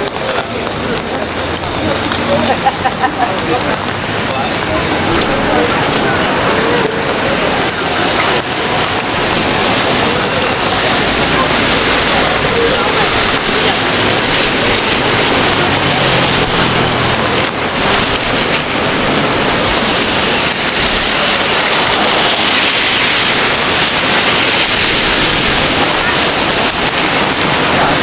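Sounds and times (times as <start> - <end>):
people talking: 0.0 - 28.0
rain on street: 0.0 - 28.0.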